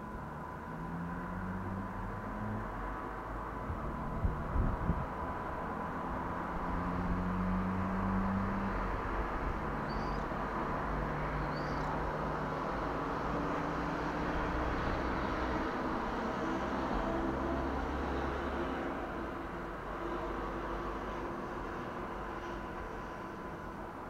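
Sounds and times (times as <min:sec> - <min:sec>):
distant road traffic: 0:00.0 - 0:24.0.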